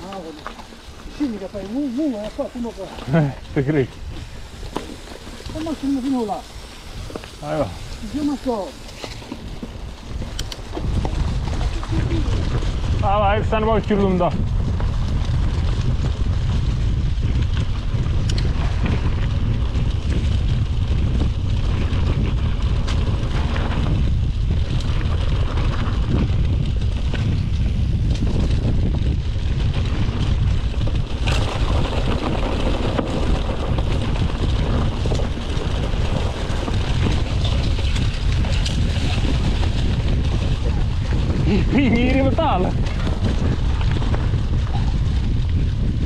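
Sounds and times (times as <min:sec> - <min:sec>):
tyre noise: 0:00.0 - 0:46.0
wind rumbling on microphone: 0:00.0 - 0:46.0
bike knocks and rattles: 0:08.2 - 0:46.0.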